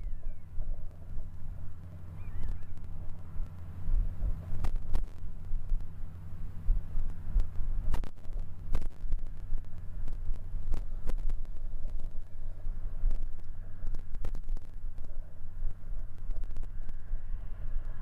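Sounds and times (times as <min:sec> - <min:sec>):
tractor engine drone: 0:00.0 - 0:18.0
wind buffeting microphone: 0:00.0 - 0:18.0.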